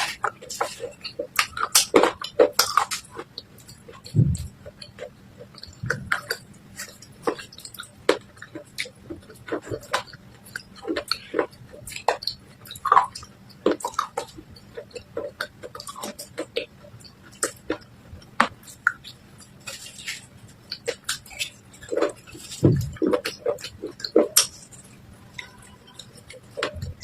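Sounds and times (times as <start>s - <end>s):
chewing brittle clay crunches: 0.0s - 27.0s.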